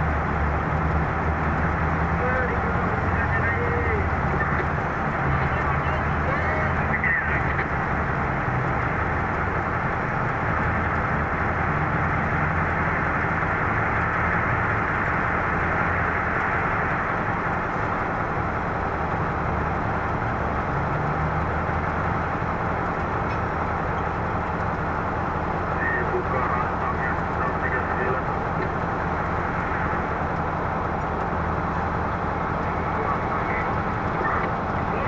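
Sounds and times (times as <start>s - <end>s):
heavy diesel engines droning: 0.0s - 35.0s.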